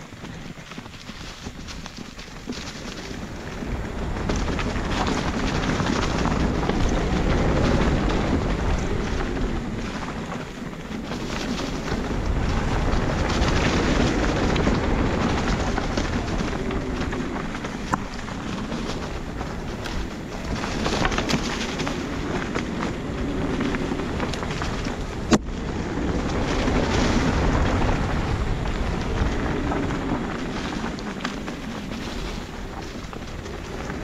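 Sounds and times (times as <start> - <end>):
bike clicks and rattles: 0.0 - 34.0
bike tyre noise: 0.0 - 34.0
wind buffeting microphone: 0.0 - 34.0.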